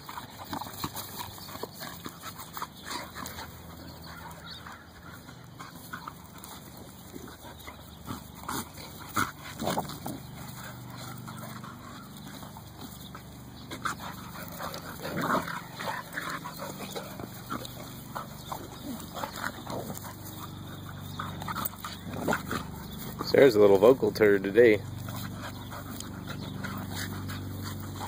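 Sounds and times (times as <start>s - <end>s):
dogs vocalizing while playing: 0.0s - 28.0s.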